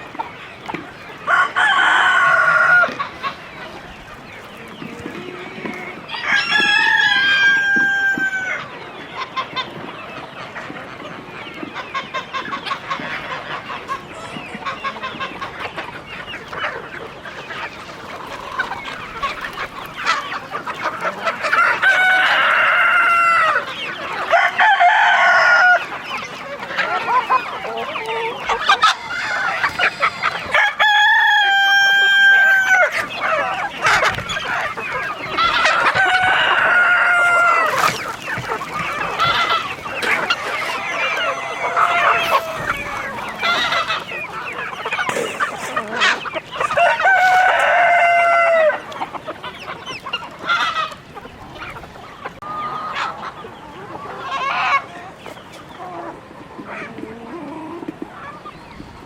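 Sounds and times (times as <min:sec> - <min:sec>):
roosters crowing: 0:00.0 - 0:10.6, 0:12.4 - 0:58.4
hens clucking: 0:00.0 - 0:59.0.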